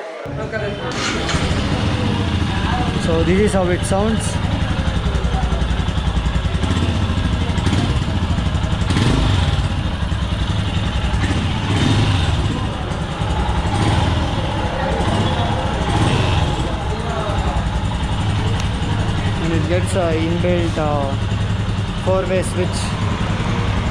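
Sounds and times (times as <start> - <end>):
motorcycle engine idling: 0.3 - 23.9.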